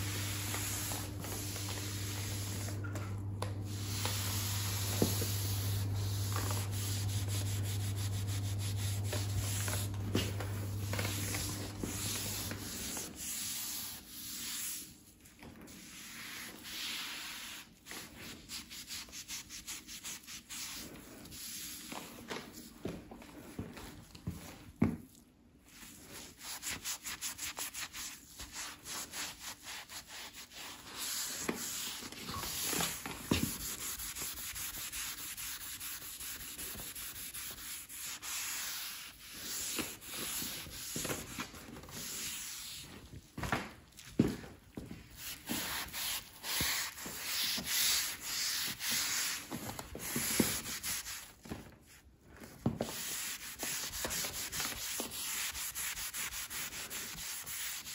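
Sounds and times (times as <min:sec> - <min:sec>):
cloth wiping a worktop: 0:00.0 - 0:22.6, 0:25.7 - 0:43.0, 0:44.9 - 0:51.3, 0:52.8 - 0:57.9.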